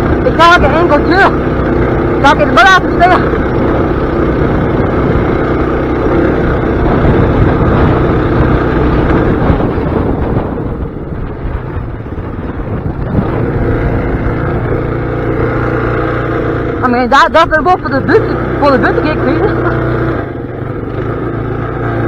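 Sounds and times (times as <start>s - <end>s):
small engine running hard: 0.0s - 22.0s.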